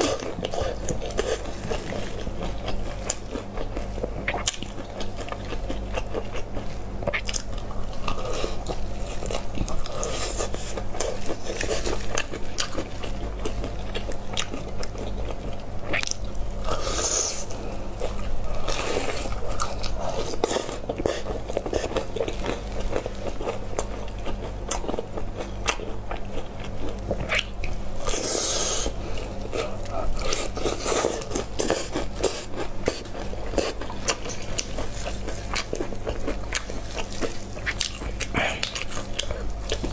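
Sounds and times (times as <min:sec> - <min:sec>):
crunchy chewing: 0:00.0 - 0:39.9
steady low hum: 0:00.0 - 0:39.9.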